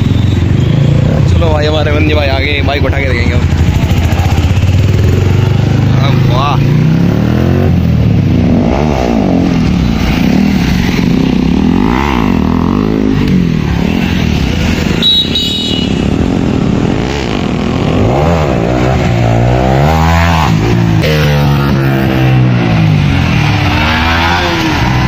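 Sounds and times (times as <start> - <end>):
motorcycle engine accelerating: 0.0 - 15.0, 15.9 - 25.0.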